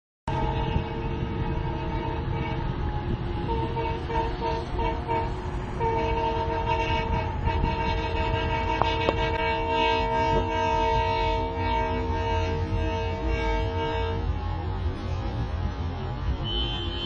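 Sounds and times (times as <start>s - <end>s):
locomotive horn blasts: 0.3s - 15.1s, 16.4s - 17.0s
steady low rumble: 0.3s - 17.0s.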